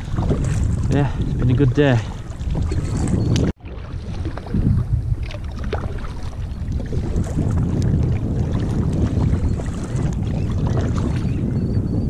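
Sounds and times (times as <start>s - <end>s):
paddle splashing water: 0.0s - 11.5s
wind buffeting microphone: 0.0s - 12.0s.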